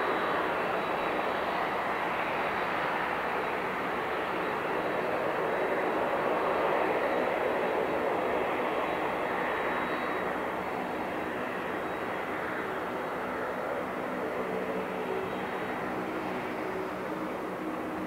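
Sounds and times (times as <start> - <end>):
jet engines at taxi power: 0.0 - 18.0.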